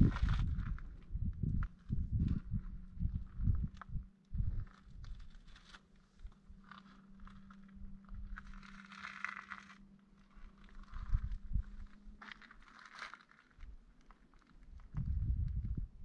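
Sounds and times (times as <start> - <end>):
low rumbles: 0.0 - 12.9, 14.6 - 16.0
rustling and crunching: 0.0 - 15.9
faint steady hum: 0.0 - 16.0.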